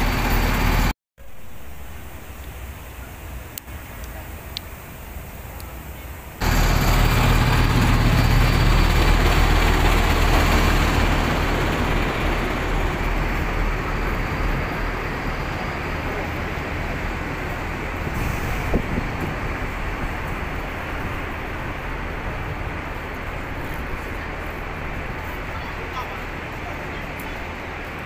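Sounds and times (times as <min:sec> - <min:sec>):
diesel coach engine running: 0:00.0 - 0:00.9, 0:05.1 - 0:28.0
street rumble: 0:00.0 - 0:28.0.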